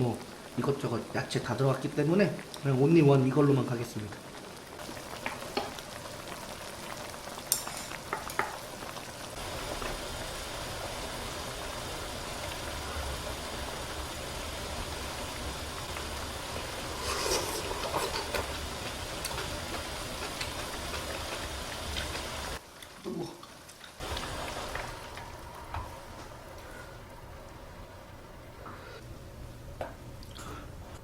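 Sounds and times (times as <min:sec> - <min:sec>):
stew bubbling at a boil: 0:00.0 - 0:26.9.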